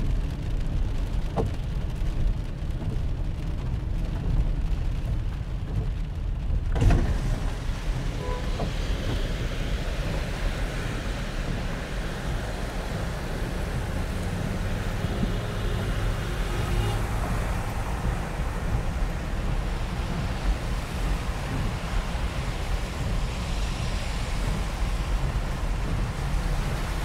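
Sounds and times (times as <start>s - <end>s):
car road rumble: 0.0s - 27.0s
hiss of rain and water: 0.0s - 27.0s.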